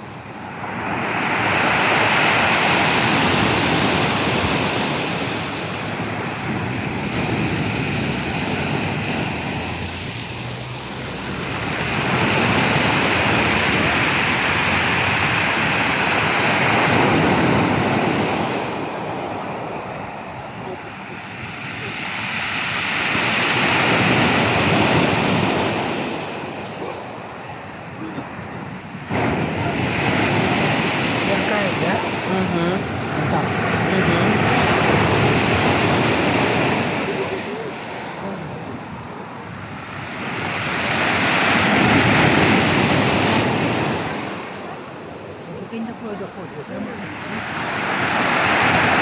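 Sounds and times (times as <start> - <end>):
waves breaking on shore: 0.0 - 49.0.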